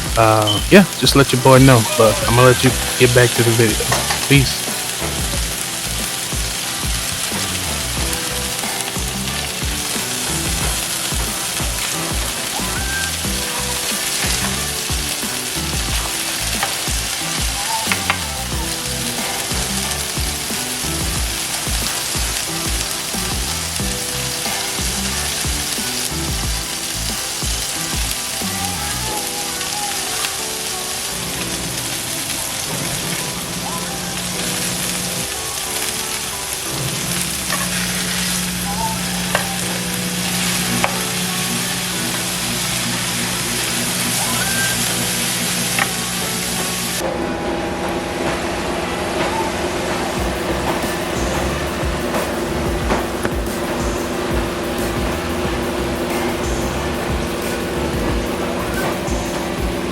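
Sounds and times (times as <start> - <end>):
food sizzling on a griddle: 0.0 - 47.0, 47.9 - 59.9.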